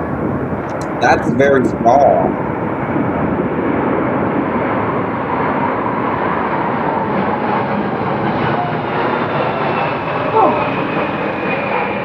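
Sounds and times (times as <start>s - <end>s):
military aircraft passing overhead: 2.2s - 12.0s.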